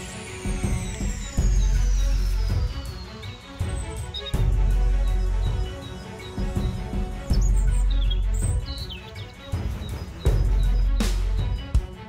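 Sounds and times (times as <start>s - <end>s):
action music with deep bass: 0.0s - 12.0s.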